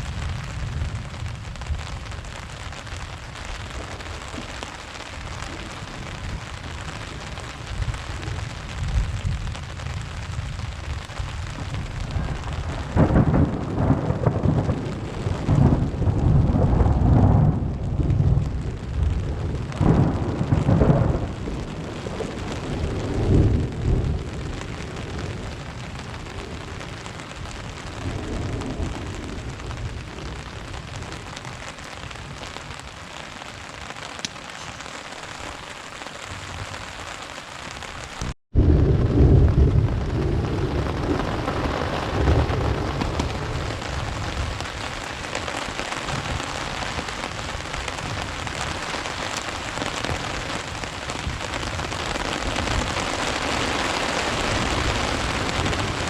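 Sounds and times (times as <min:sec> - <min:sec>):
steady rain: 0:00.0 - 0:56.0
thunder rumbling: 0:00.0 - 0:56.0.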